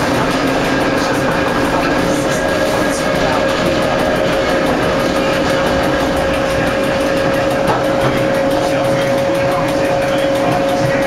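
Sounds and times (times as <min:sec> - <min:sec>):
electric railcar drive whine: 0:00.0 - 0:11.0
wheels rumbling on track: 0:00.0 - 0:11.0.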